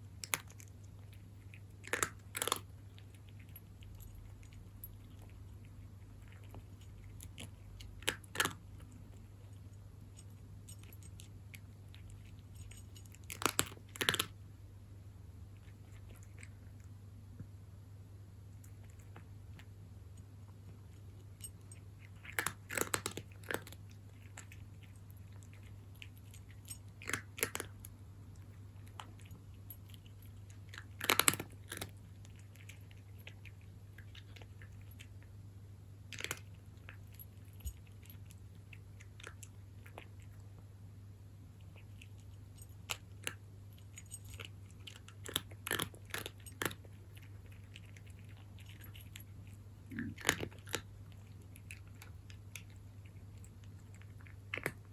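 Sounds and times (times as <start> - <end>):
cat crunching dry kibble: 0.0 - 14.4, 15.4 - 17.0, 18.5 - 35.4, 36.0 - 40.7, 41.5 - 54.9
low steady hum: 0.0 - 54.9.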